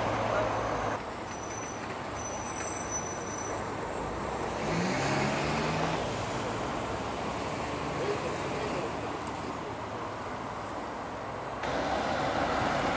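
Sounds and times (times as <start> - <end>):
hum of passing cars: 0.0 - 1.3, 1.9 - 12.9
vehicle engine: 0.0 - 12.9.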